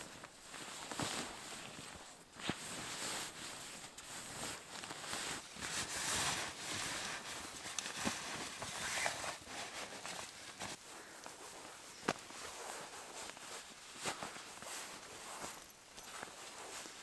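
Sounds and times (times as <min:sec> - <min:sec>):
nylon rustling and crumpling: 0:00.0 - 0:17.0.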